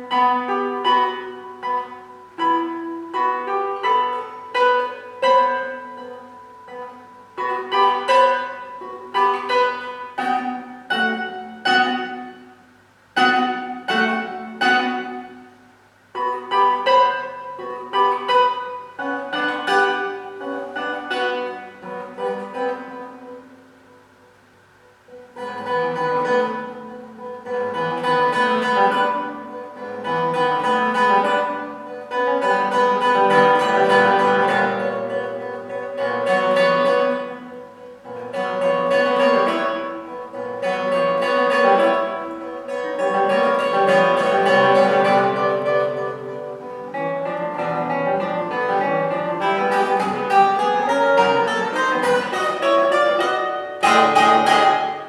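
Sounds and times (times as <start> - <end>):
classical guitar playing: 0.0 - 55.0.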